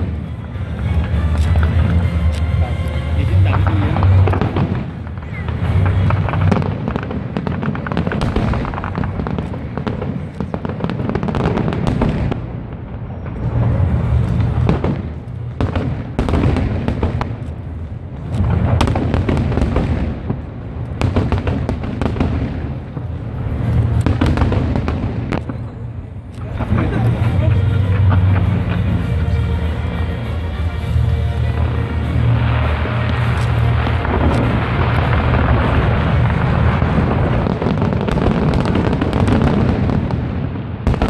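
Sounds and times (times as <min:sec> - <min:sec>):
deep fireworks booms: 0:00.0 - 0:41.0
fireworks bursting and crackling: 0:00.0 - 0:41.0.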